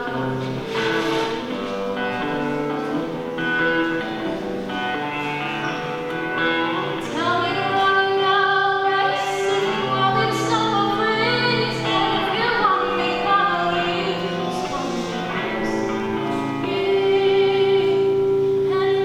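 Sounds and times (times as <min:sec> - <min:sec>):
girl singing with vibrato: 0:00.0 - 0:05.4, 0:06.2 - 0:19.0
instrumental accompaniment: 0:00.0 - 0:19.0.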